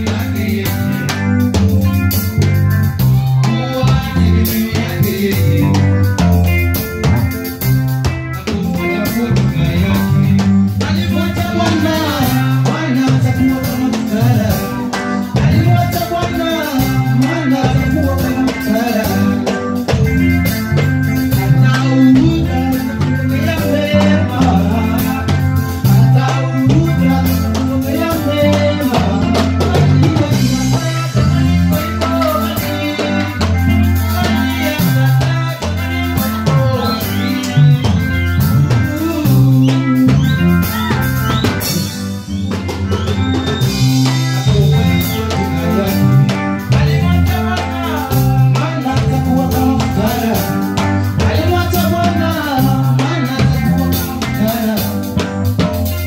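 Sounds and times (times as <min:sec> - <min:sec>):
person singing: 0:00.0 - 0:55.9
rock band playing: 0:00.0 - 0:56.0.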